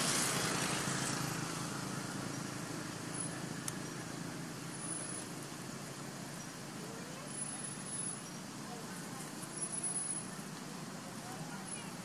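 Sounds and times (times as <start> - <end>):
road vehicle passing: 0.0 - 12.0.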